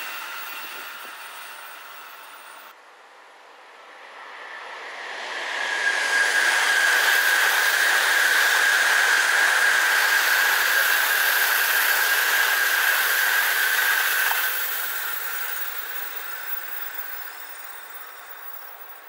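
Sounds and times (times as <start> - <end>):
bullet train passing at speed: 0.0 - 19.0.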